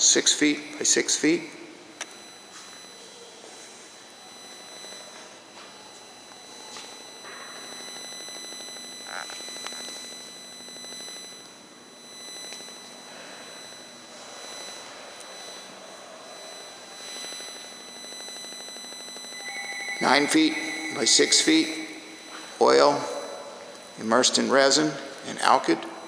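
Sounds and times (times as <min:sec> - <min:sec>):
faint high-pitched tones: 0:00.0 - 0:26.0.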